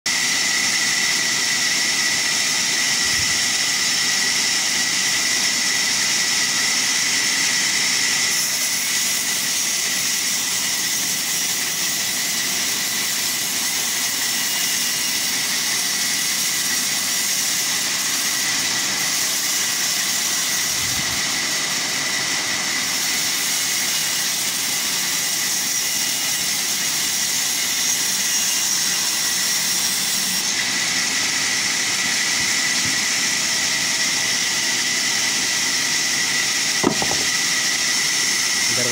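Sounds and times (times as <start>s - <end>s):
band saw cutting log: 0.1s - 38.9s.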